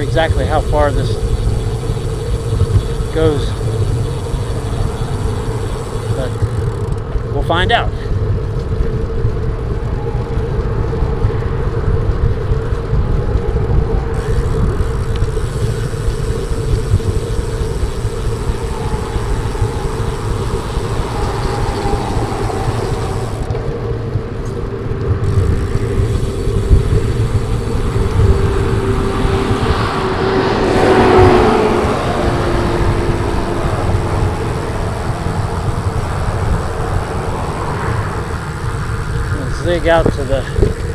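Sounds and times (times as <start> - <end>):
bike tyres on concrete: 0.0 - 40.9
steady hum: 0.0 - 40.9
wind rushing over microphone: 0.0 - 40.9.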